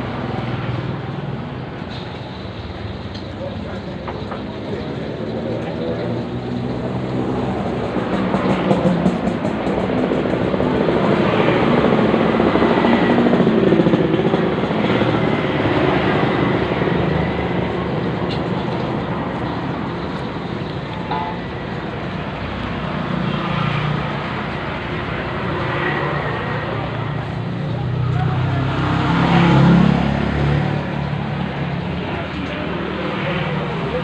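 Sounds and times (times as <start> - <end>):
road traffic with vehicles passing: 0.0 - 34.0.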